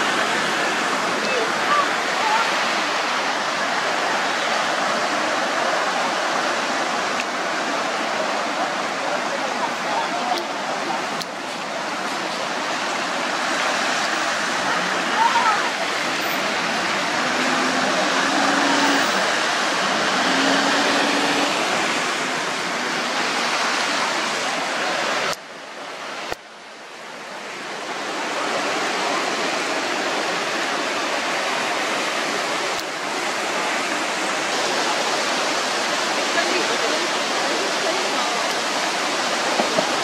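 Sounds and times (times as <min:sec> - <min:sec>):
floodwater rushing: 0:00.0 - 0:40.0.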